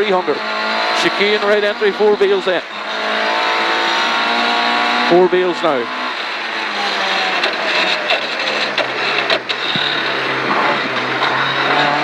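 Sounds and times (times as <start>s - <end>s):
car engine downshifting: 0.0s - 12.0s
road noise inside car: 0.0s - 12.0s.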